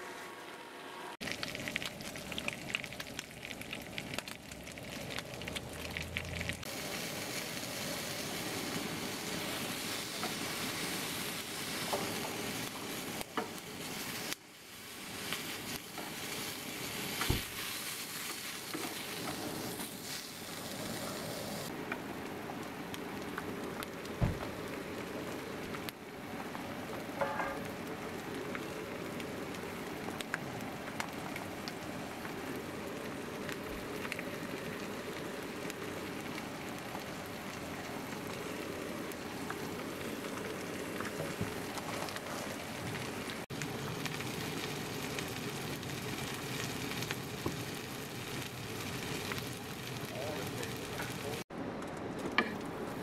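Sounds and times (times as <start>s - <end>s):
food sizzling in a frying pan: 1.2s - 51.5s.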